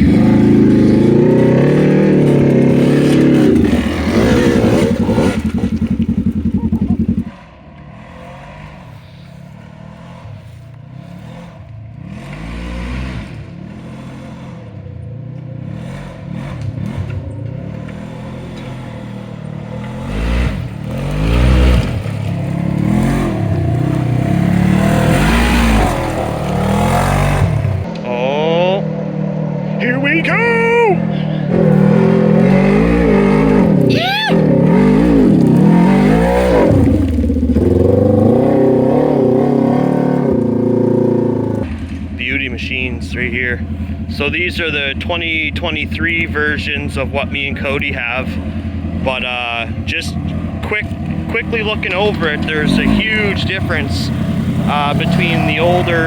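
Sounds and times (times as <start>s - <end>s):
dirt bike engine revving: 0.0s - 56.0s
distant dirt bike revving: 0.0s - 56.0s.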